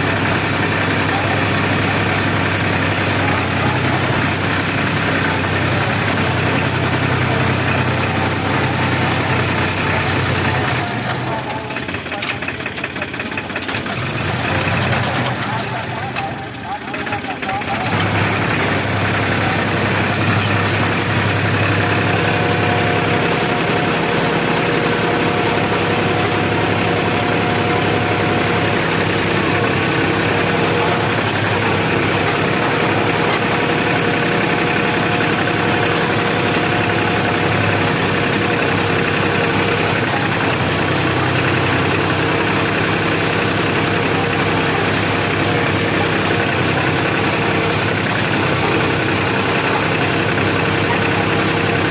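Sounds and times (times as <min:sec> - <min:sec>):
harvester engine hum: 0:00.0 - 0:51.9.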